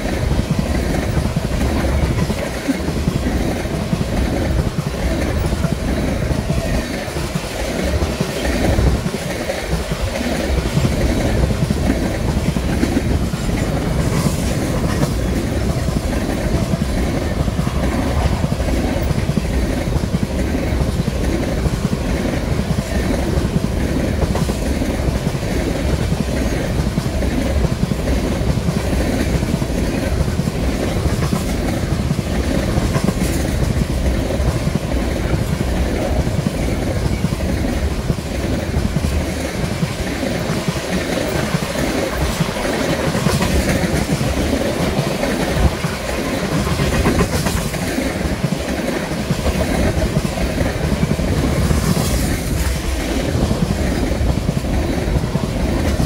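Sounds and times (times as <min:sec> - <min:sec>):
train wheels rumbling on rails: 0:00.0 - 0:56.0
wheels clicking over track: 0:00.0 - 0:56.0.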